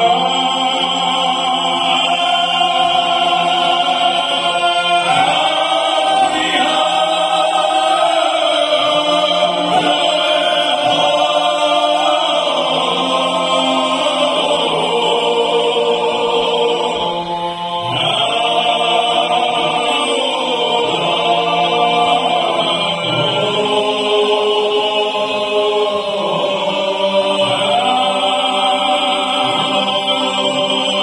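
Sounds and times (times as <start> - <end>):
male choir singing a cappella: 0.0 - 31.0.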